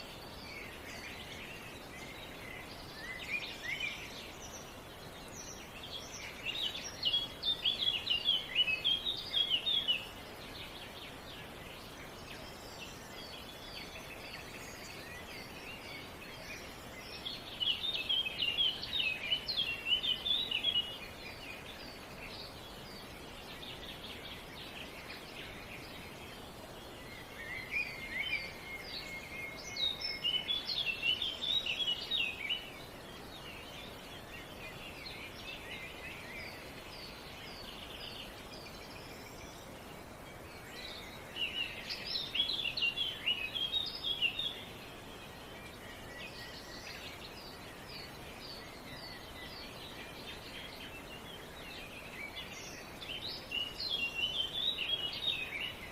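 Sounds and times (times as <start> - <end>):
outdoor background hiss: 0.0 - 55.9
songbird chirping: 0.0 - 55.9.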